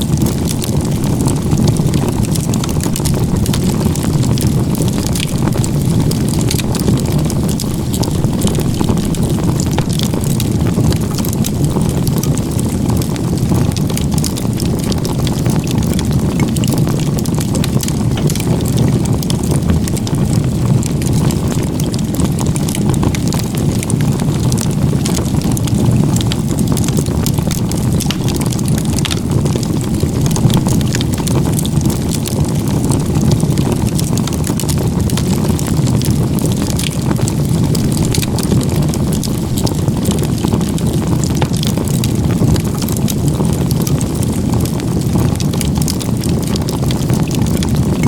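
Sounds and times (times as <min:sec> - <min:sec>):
wood crackling and popping: 0:00.0 - 0:48.0
wood fire burning: 0:00.0 - 0:48.0.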